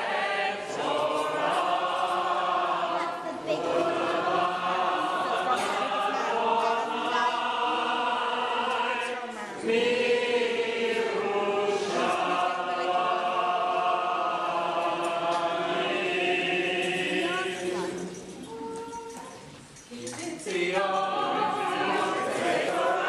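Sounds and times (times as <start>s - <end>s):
congregation singing: 0.0s - 23.0s.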